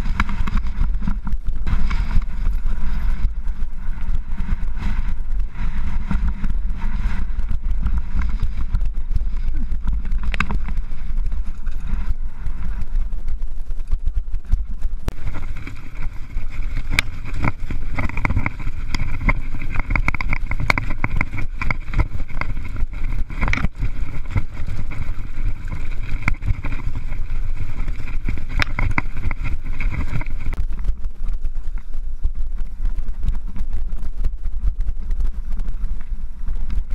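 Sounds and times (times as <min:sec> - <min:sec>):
bike rattling over rocks: 0:00.0 - 0:36.9
wind rumbling on microphone: 0:00.0 - 0:36.9.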